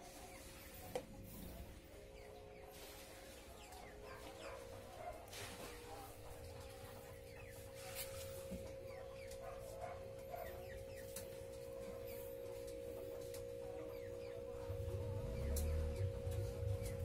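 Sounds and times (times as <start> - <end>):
chickens clucking faintly: 0.0 - 17.0
steady hum: 0.0 - 17.0.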